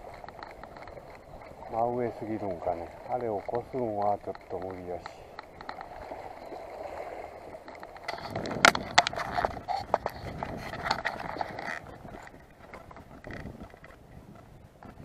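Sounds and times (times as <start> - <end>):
sharp clicks and knocks: 0.0 - 1.8, 2.4 - 6.3, 7.6 - 14.0.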